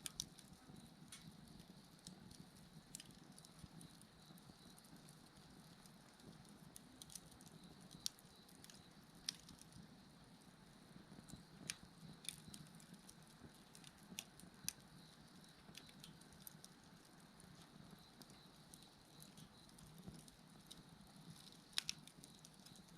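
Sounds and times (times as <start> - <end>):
sharp pops of fire: 0.0 - 22.9
wood fire crackling: 0.0 - 22.9.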